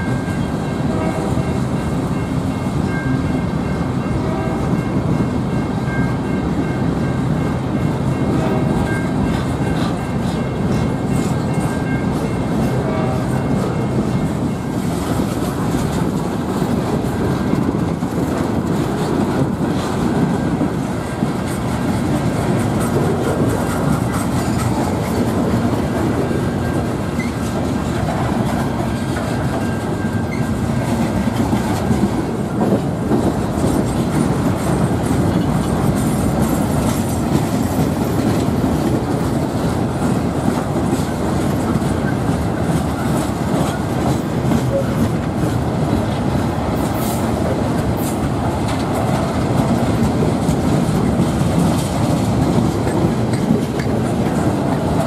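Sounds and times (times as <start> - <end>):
freight train rumbling past: 0.0 - 55.0
wheels clacking over rail joints: 7.4 - 55.0.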